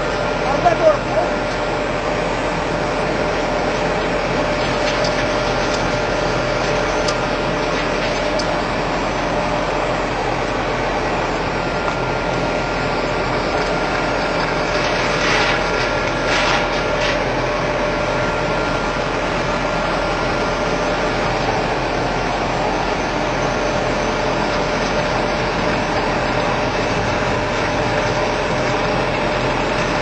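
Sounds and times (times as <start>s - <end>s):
faint steady whine: 0.0s - 30.0s
mill machine humming: 0.0s - 30.0s.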